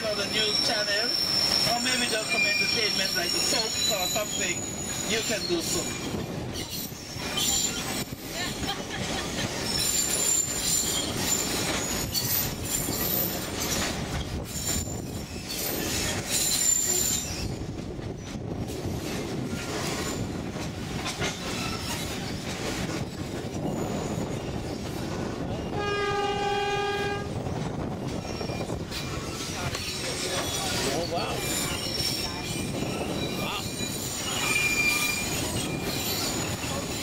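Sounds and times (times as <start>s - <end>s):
high wheel squeal: 0.0s - 8.6s, 9.2s - 20.4s, 21.1s - 26.3s, 27.0s - 37.0s
train wheels rumbling on rails: 0.0s - 37.0s.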